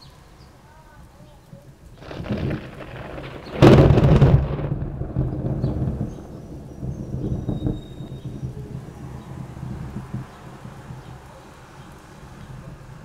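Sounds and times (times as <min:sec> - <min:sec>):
thunderclap rumbling: 0:01.7 - 0:13.0.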